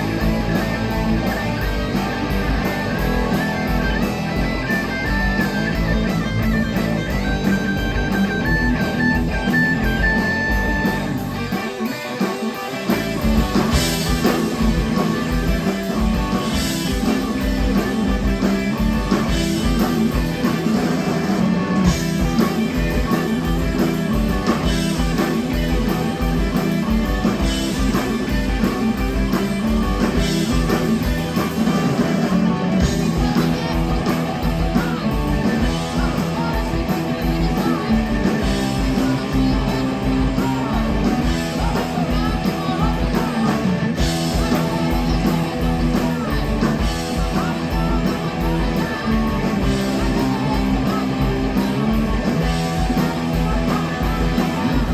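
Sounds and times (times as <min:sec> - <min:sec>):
bass guitar: 0:00.0 - 0:54.9
distorted electric guitars: 0:00.0 - 0:54.9
drum kit beat: 0:00.0 - 0:54.9.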